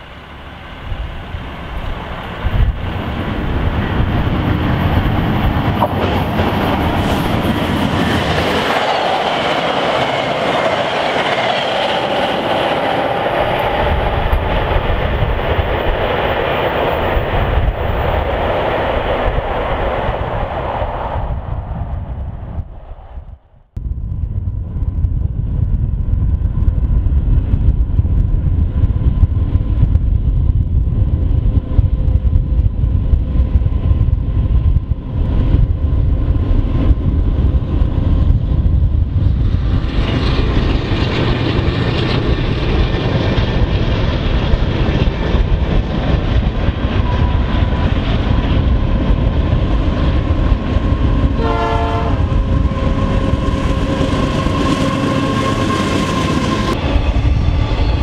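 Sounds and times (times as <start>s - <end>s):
diesel locomotives rumbling: 0.0s - 58.0s.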